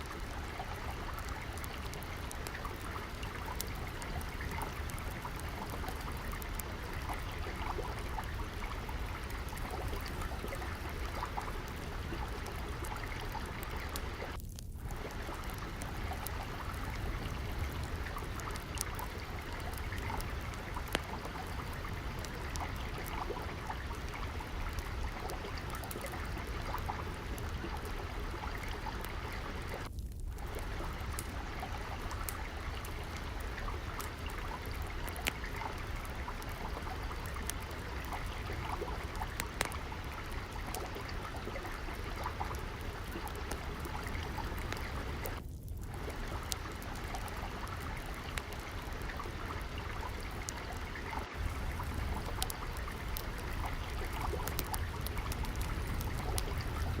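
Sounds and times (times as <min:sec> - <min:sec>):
water trickling: 0:00.0 - 0:57.0
wood fire crackling: 0:00.0 - 0:57.0.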